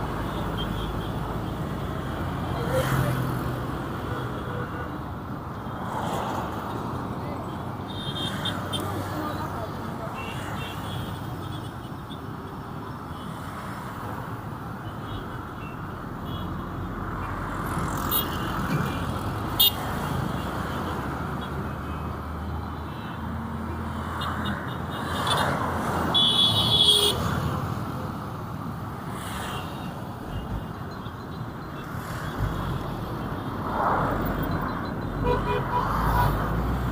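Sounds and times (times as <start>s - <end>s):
car and truck engines passing: 0.0s - 36.9s.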